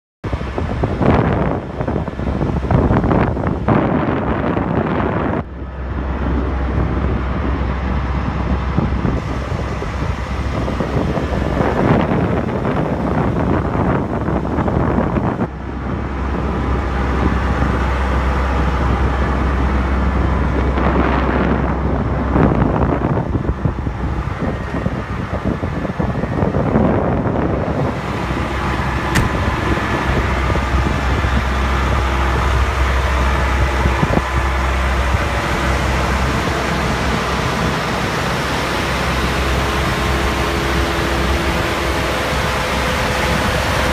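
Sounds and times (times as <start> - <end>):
low rumble: 0.2 - 43.9
wind buffeting microphone: 0.2 - 43.9.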